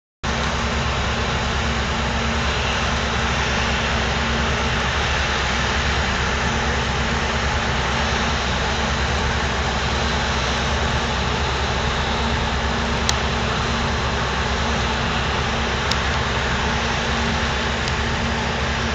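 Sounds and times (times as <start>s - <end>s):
ship engines droning: 0.3s - 18.9s
wind and water rushing: 0.3s - 18.9s.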